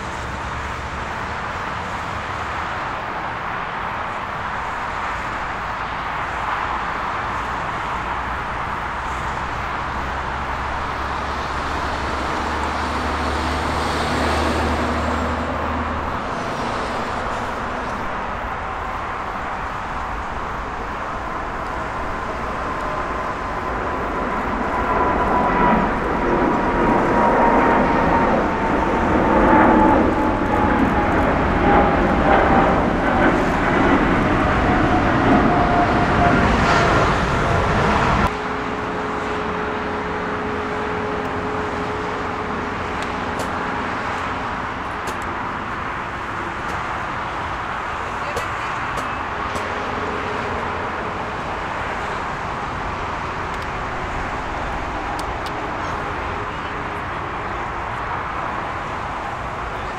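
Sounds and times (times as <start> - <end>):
jet taking off: 0.0 - 59.9.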